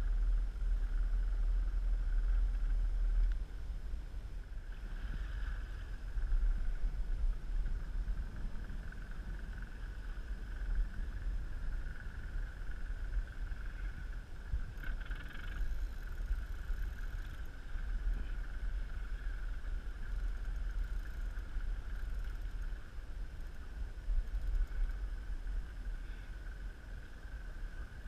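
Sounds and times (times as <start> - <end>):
high-pitched whine: 0.0 - 28.0
wind buffeting microphone: 0.0 - 28.0.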